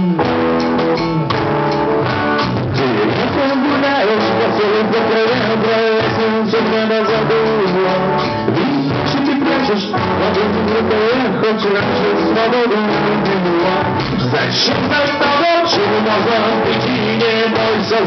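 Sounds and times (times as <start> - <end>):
rock music instrumental: 0.0 - 18.0.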